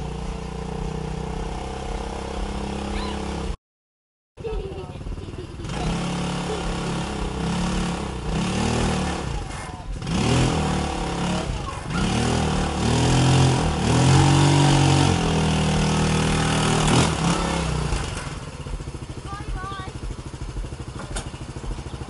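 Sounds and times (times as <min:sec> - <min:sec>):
go-kart engine revving: 0:00.0 - 0:03.6, 0:04.4 - 0:22.0.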